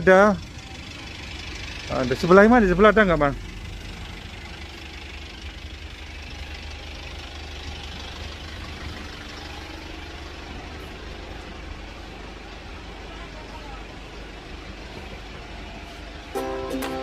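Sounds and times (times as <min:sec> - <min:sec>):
low engine hum: 0:00.0 - 0:17.0
street noise: 0:00.0 - 0:17.0.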